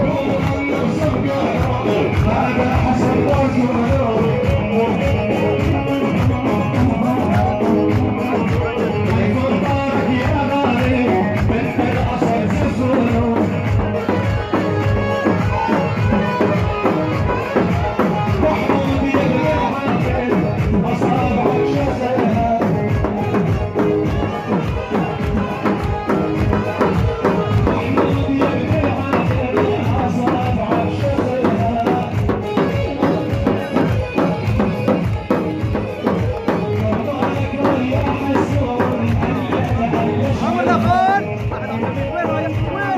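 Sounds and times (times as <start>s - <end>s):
loud music with drumbeat: 0.0s - 42.9s.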